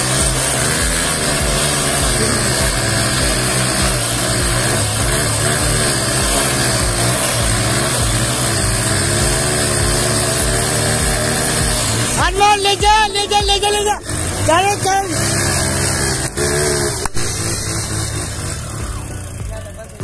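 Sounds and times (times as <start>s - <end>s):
motorcycle engines running hard: 0.0s - 20.0s.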